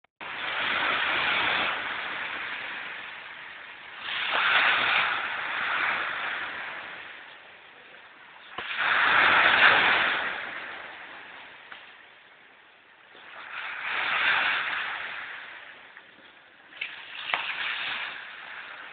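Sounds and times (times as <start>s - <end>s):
waves washing up pebble beach: 0.2s - 7.4s, 8.4s - 12.2s, 13.1s - 16.0s, 16.6s - 18.9s.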